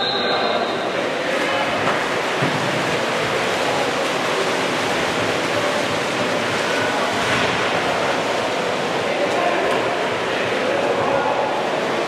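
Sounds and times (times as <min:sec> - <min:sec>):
echoing hubbub: 0:00.0 - 0:12.0
water splashing in pool: 0:00.0 - 0:12.0.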